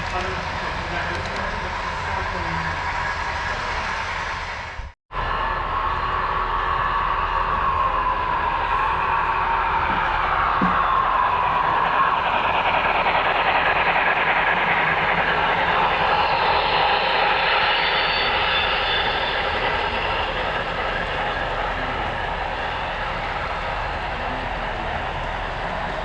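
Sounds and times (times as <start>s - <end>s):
model train whirring: 0.0s - 4.8s, 5.4s - 26.0s.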